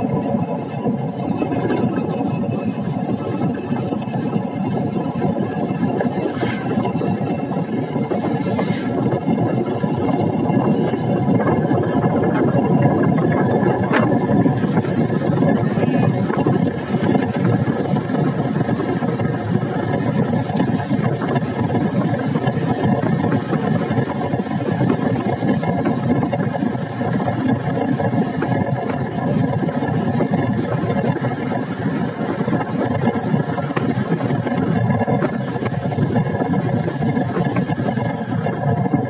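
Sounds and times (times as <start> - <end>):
motorcycle engine cruising: 0.0 - 39.0
road and wind noise: 0.0 - 39.0.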